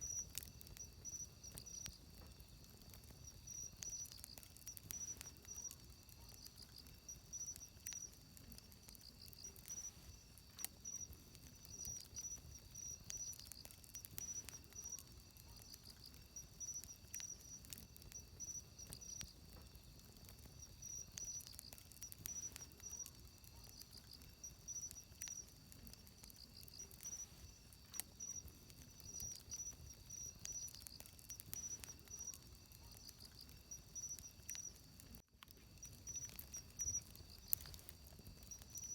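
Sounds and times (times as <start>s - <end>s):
campfire crackling and popping: 0.0s - 38.9s
insects chirping: 0.0s - 38.9s.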